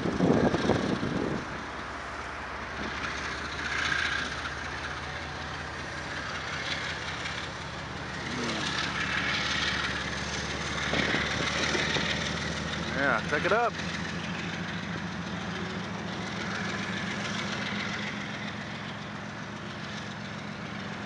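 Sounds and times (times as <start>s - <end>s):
locomotive engine humming: 0.0s - 21.0s.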